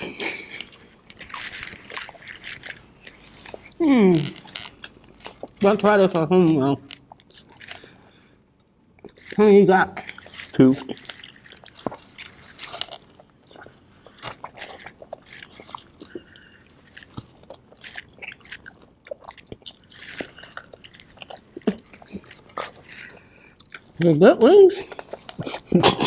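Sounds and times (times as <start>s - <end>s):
wet chewing and smacking: 0.0s - 26.0s.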